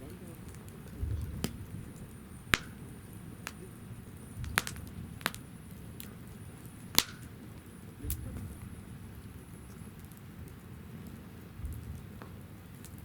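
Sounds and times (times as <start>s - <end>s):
low rustle of flame: 0.0s - 13.0s
sharp pops of fire: 0.0s - 13.0s
wood fire crackling: 0.0s - 13.0s.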